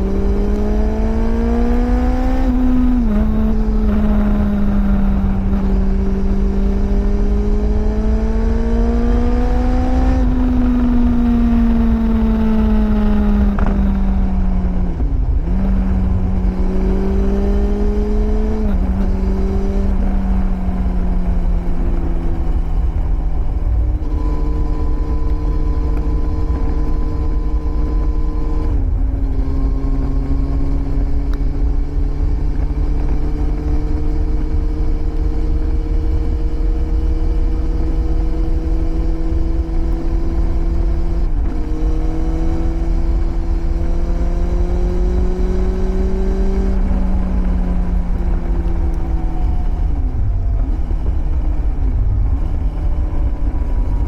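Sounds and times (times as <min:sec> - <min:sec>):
low wind rumble: 0:00.0 - 0:54.0
motorcycle engine accelerating: 0:00.0 - 0:54.0.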